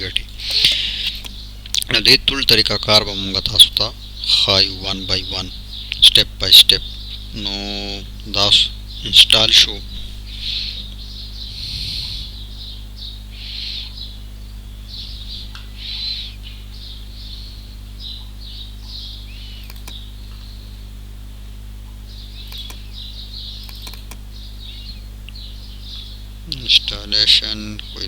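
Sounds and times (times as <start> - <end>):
low electrical hum: 0.0 - 28.0
small birds chirping: 0.0 - 28.0.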